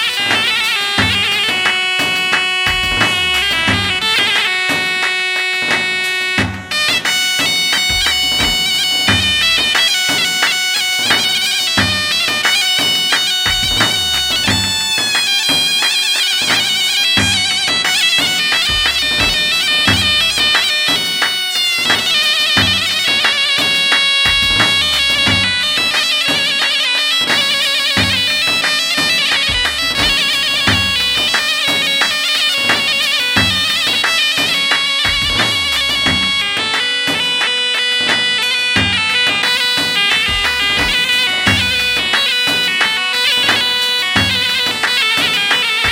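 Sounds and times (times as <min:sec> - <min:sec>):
reedy wind instrument melody: 0:00.0 - 0:45.9
steady drum beat: 0:00.0 - 0:45.9.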